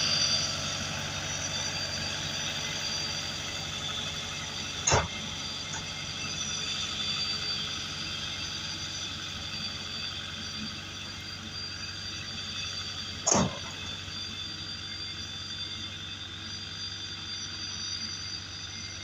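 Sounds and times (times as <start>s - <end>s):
road roller diesel engine: 0.0s - 19.0s.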